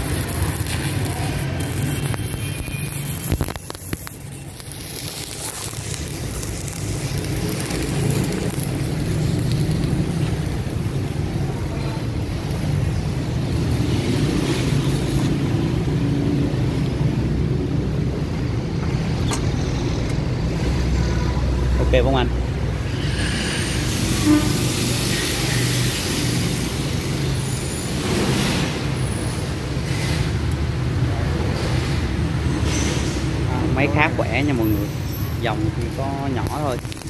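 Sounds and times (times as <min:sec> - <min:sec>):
welding arc crackling hiss: 0:00.0 - 0:20.8, 0:22.8 - 0:37.0.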